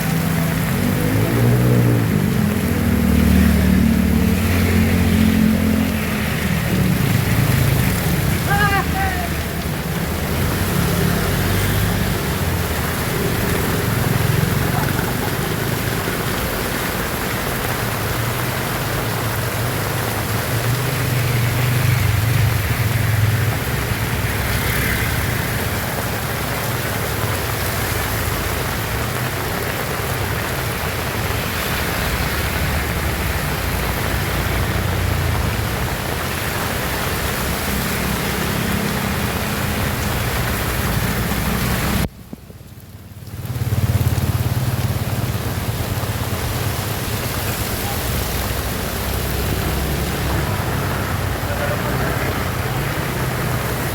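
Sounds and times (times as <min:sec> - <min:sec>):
heavy rain hissing: 0:00.0 - 0:53.9.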